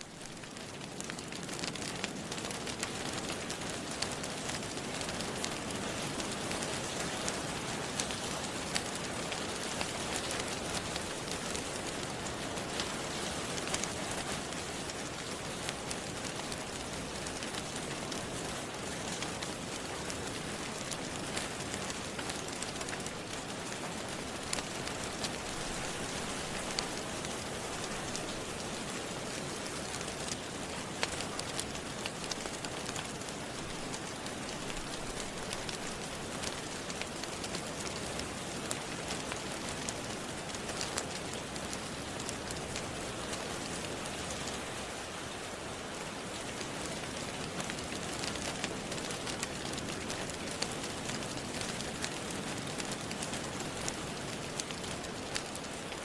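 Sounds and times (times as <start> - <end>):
rain hiss: 0.0 - 56.0
wood fire crackling and popping: 0.0 - 56.0.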